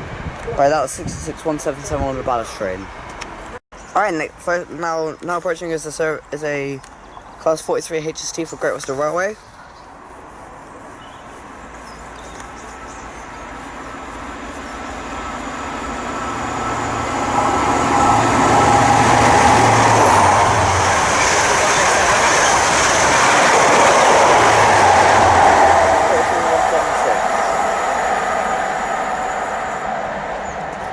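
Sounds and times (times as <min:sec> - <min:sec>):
diesel train passing: 0:00.0 - 0:30.9.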